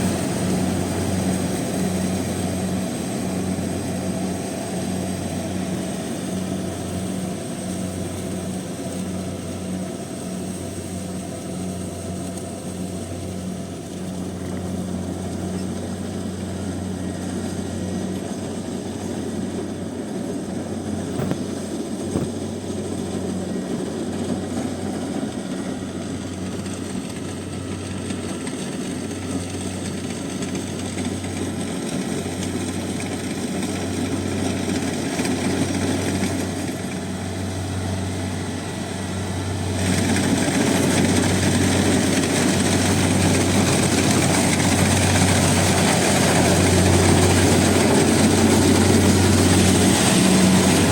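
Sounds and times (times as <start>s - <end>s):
cutting and threshing machinery: 0.0s - 50.9s
low engine hum: 0.0s - 50.9s.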